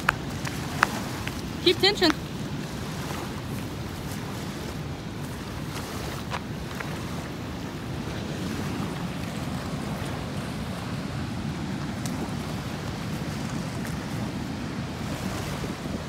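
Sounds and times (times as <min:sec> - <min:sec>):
water rushing through gates: 0:00.0 - 0:16.0
wind on microphone: 0:00.0 - 0:16.0.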